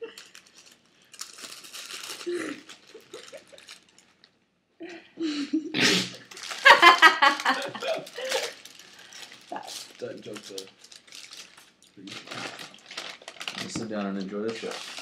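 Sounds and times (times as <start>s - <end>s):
paper wrappers crinkling: 0.0s - 4.3s, 6.2s - 15.0s.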